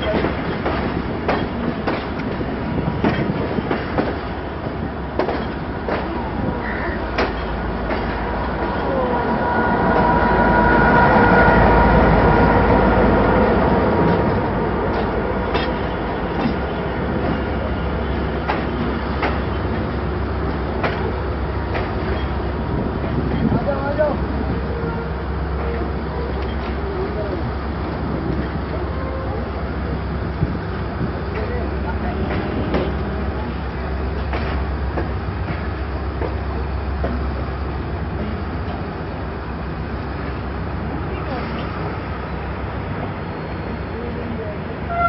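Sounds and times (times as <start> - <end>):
diesel locomotive drone: 0.0 - 45.0
train rumble: 0.0 - 45.0.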